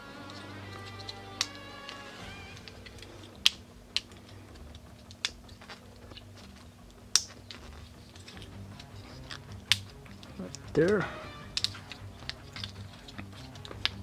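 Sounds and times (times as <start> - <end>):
low steady hum: 0.0 - 14.0
plastic toy parts clicking: 0.2 - 14.0.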